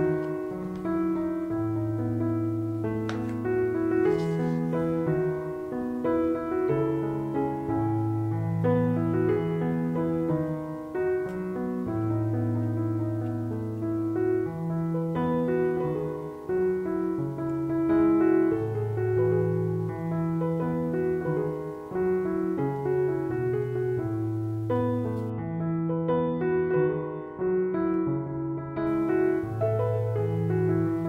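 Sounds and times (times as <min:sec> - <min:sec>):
slow piano music: 0:00.0 - 0:31.0.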